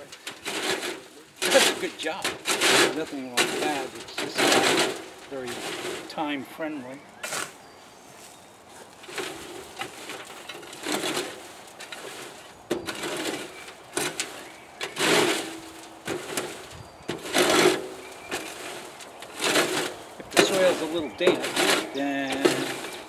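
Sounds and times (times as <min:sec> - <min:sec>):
shovel scraping on wire mesh: 0:00.0 - 0:06.3, 0:09.0 - 0:23.0.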